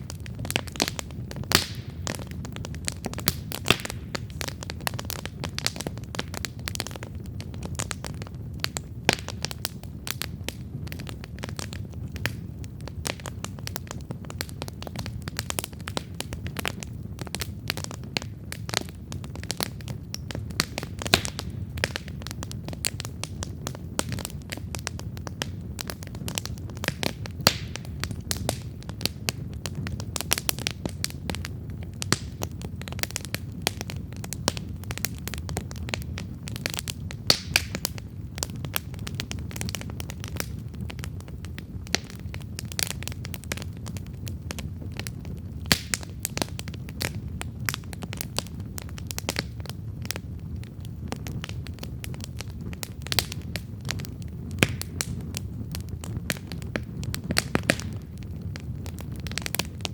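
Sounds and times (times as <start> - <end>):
campfire crackling and popping: 0.0 - 59.9
low rumble of flame: 0.0 - 59.9.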